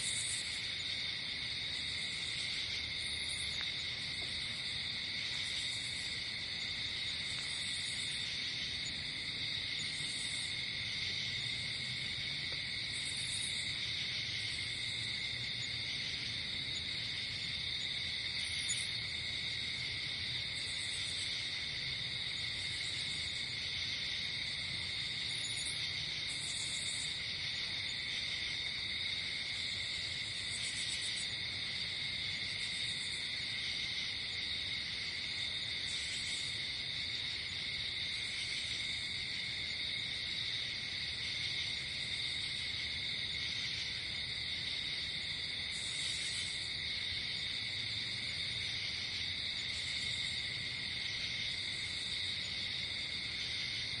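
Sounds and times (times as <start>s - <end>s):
crickets trilling: 0.0s - 54.0s
high buzzy insect calls: 0.0s - 54.0s.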